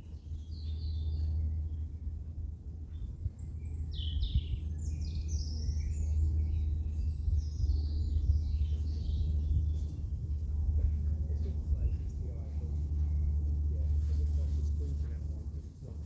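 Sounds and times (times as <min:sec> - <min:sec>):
songbird chirping: 0:00.0 - 0:15.2
low rumble: 0:00.0 - 0:16.0.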